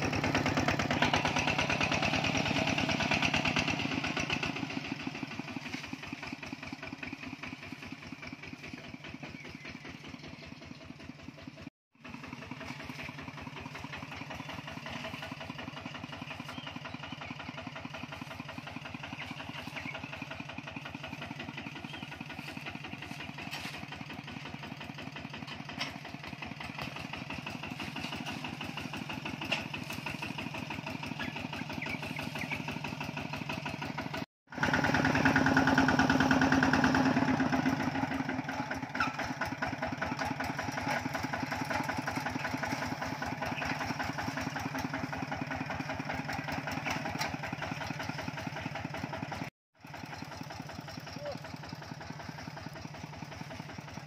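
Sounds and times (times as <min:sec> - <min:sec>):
diesel tractor engine chugging: 0:00.0 - 0:54.0.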